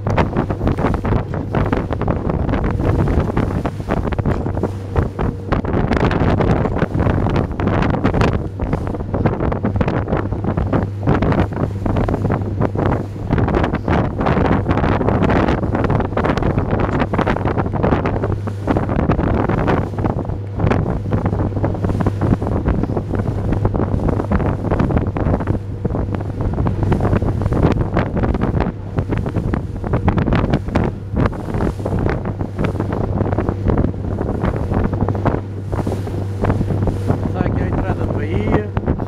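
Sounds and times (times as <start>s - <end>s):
boat engine drone: 0.0s - 39.0s
waves washing against hull: 0.0s - 39.0s
wind buffeting microphone: 0.0s - 39.0s.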